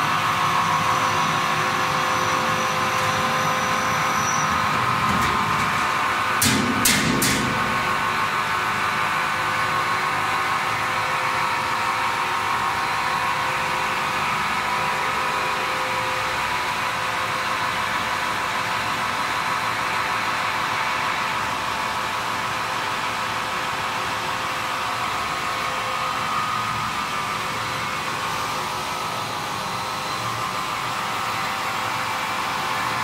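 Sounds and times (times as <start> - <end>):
mixing machinery whirring: 0.0 - 33.0.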